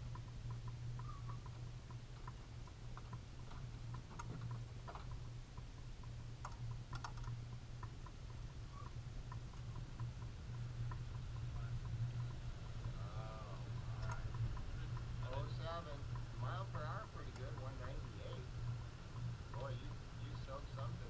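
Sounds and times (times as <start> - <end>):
light ticking: 0.0 - 21.0
steady low hum: 0.0 - 21.0.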